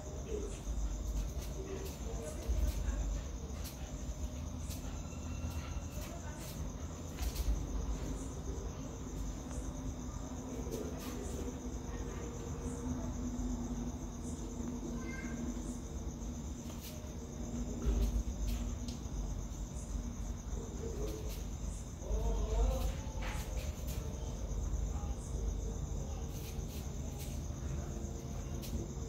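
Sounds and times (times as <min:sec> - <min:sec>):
crickets trilling: 0:00.0 - 0:29.0
faint low hum: 0:00.0 - 0:29.0.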